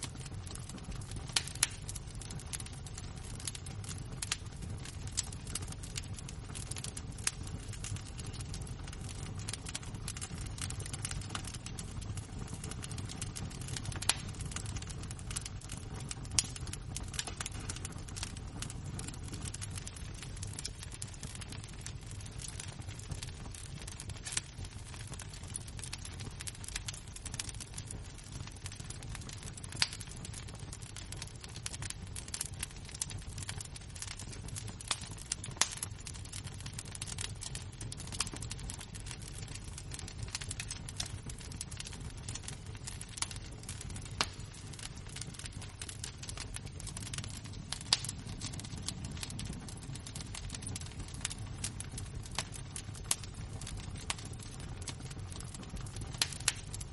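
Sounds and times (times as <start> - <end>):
fire crackling: 0.0 - 56.9
loud pops from fire: 0.0 - 56.9.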